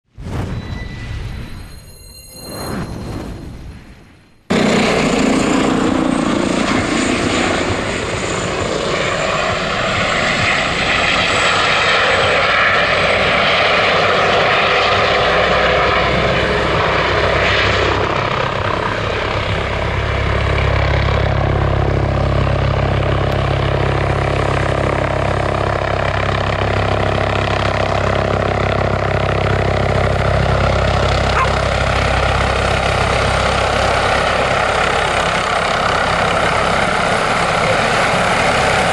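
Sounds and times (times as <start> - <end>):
model helicopter rotor whine: 4.5 - 38.9.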